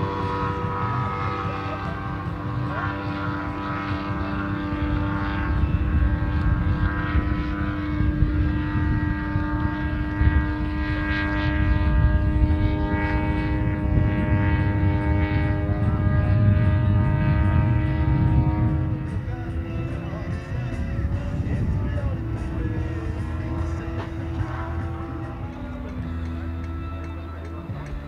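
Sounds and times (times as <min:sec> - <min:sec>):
model plane engine and propeller: 0:00.0 - 0:28.0.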